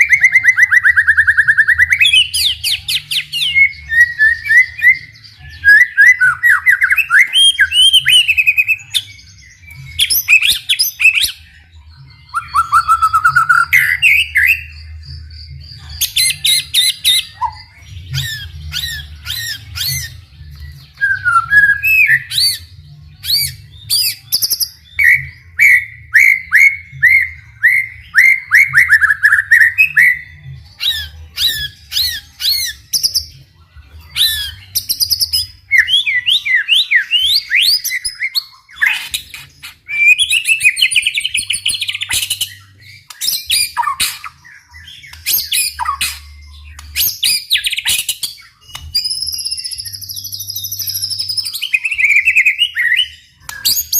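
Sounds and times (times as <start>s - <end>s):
songbird singing: 0.0s - 53.9s.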